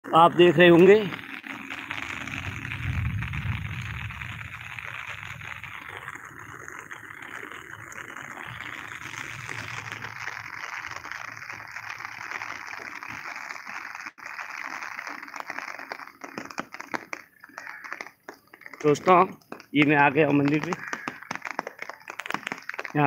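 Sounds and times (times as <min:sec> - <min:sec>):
rain on an umbrella: 0:00.1 - 0:23.0.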